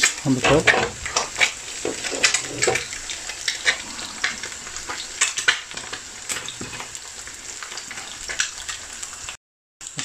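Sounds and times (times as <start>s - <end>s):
spitting oil pops and crackles: 0.0s - 8.9s
egg sizzling in frying pan: 0.0s - 10.0s.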